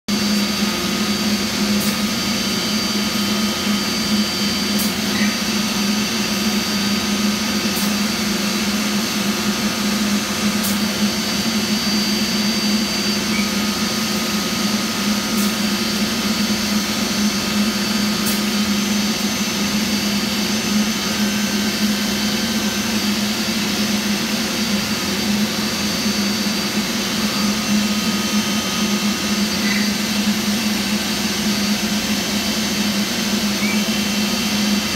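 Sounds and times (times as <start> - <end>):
cnc router humming: 0.1 - 34.9
high whine: 0.1 - 34.9.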